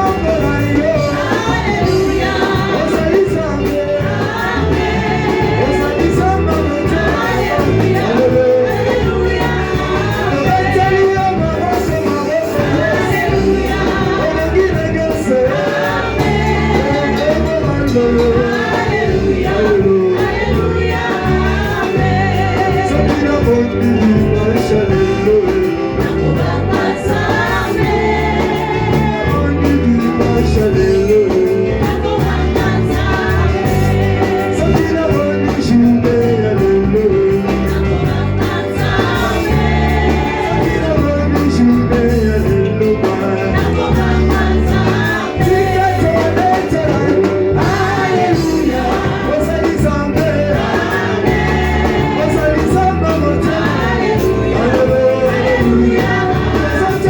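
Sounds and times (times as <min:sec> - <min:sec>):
gospel singing with accompaniment: 0:00.0 - 0:57.0.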